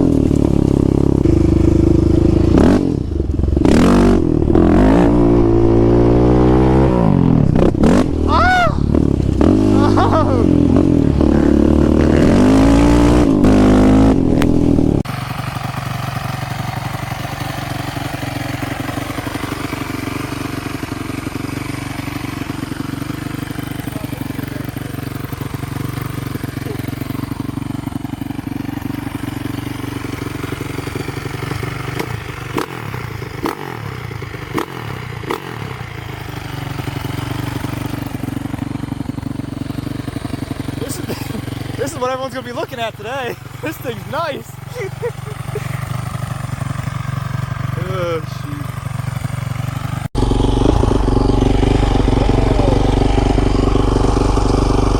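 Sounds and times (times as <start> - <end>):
dirt bike engine revving: 0.0 - 54.9
engine running steadily: 0.0 - 54.9.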